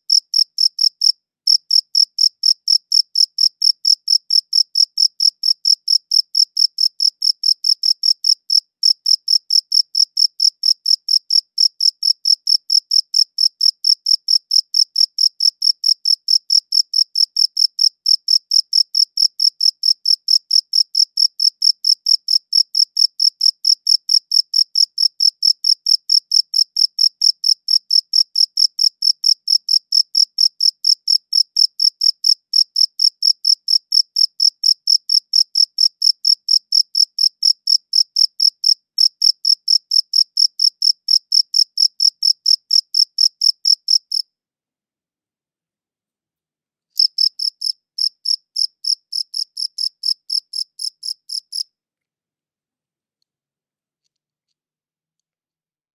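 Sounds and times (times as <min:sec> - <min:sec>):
cricket chirping: 0:00.1 - 0:44.2, 0:47.0 - 0:51.6.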